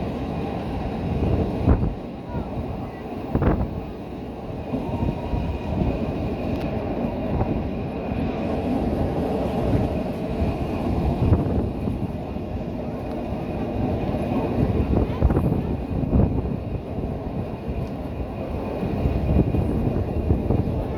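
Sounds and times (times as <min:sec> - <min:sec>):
train wheels rumbling: 0:00.0 - 0:20.9.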